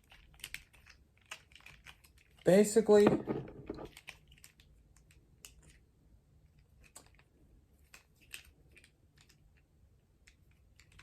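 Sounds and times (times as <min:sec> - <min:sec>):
plastic toy parts clicking: 0:00.0 - 0:02.4, 0:03.6 - 0:05.8, 0:06.6 - 0:11.0.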